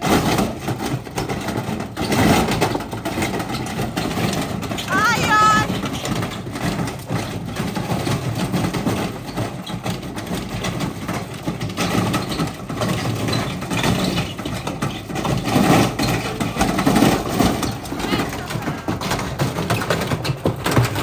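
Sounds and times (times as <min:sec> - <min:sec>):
bricks clattering in drum: 0:00.0 - 0:21.0.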